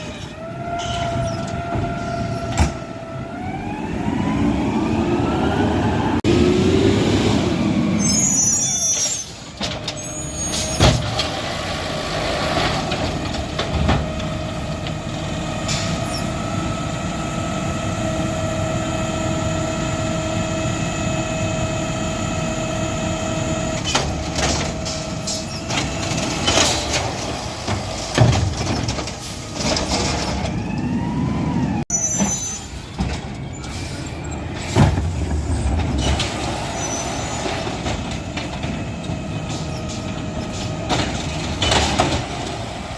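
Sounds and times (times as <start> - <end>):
garbage truck running: 0.0 - 42.9
hydraulics whining: 0.0 - 42.9.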